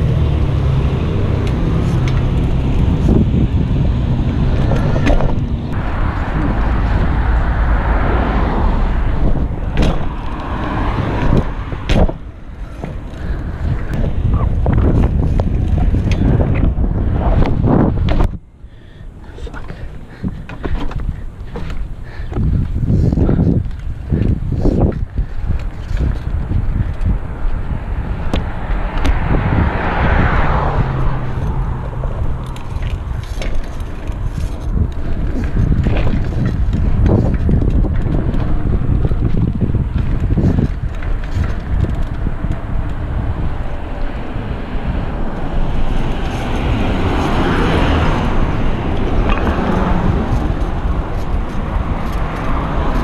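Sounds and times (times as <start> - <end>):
bike tyres rolling on asphalt: 0.0 - 53.0
wind rushing over microphone: 0.0 - 53.0
bike clicks and knocks: 1.2 - 7.1, 9.1 - 18.4, 19.2 - 53.0.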